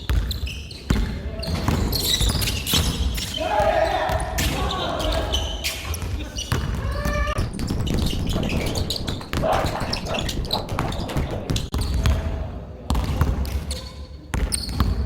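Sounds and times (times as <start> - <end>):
basketball bouncing on court: 0.0 - 15.0.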